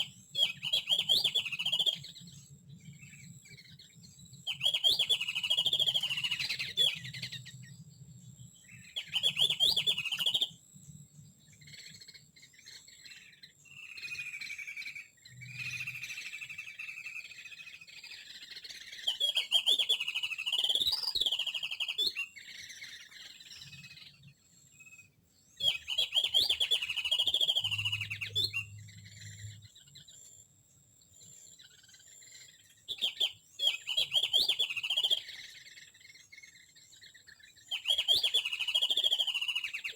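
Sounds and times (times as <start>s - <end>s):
bird trill: 0.0s - 39.9s
songbirds chattering: 0.0s - 39.9s.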